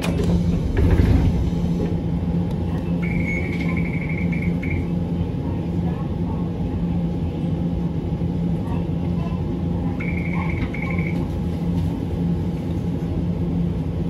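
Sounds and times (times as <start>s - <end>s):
tram rumble and hum: 0.0s - 14.0s.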